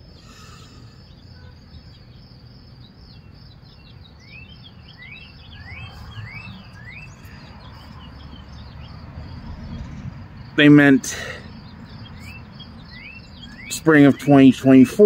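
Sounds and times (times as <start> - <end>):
bird chirping: 0.0 - 15.0
insects trilling: 0.0 - 15.0.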